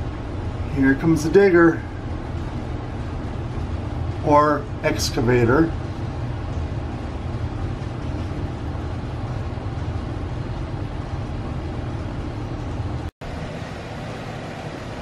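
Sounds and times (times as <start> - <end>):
diesel engine low rumble: 0.0 - 15.0.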